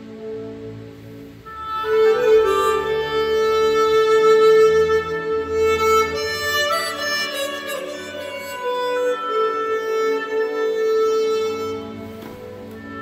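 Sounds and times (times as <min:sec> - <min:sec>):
harmonica playing slow melody: 0:01.4 - 0:13.0.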